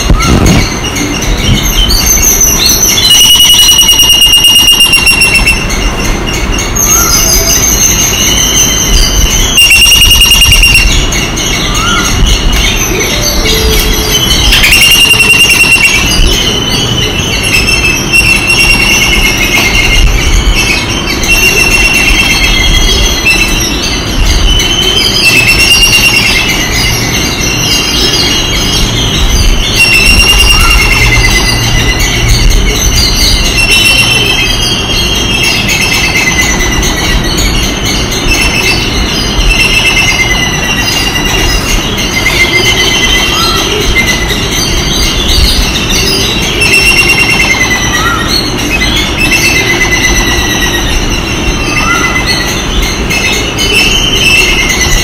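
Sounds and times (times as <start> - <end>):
babblers calling: 0.0 - 55.0.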